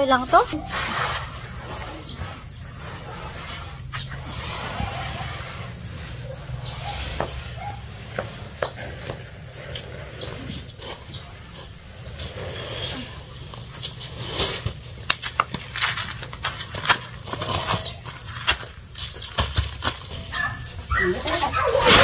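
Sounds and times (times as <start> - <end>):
rice grains rustling: 0.2 - 18.9.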